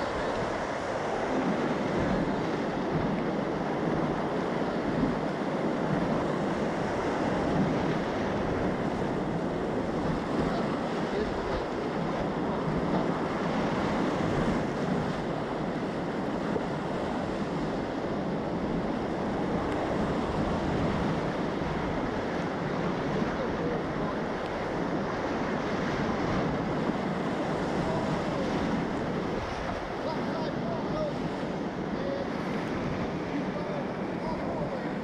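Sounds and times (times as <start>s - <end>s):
whitewater rapids rushing: 0.0s - 35.0s.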